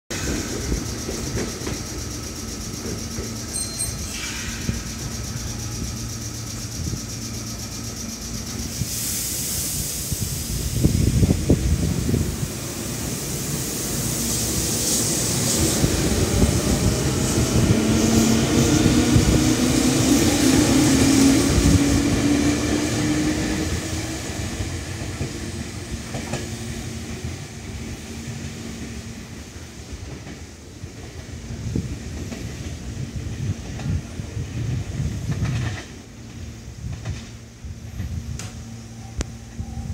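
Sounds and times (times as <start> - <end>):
train wheels clicking over rail joints: 0.1 - 9.0, 12.9 - 38.6.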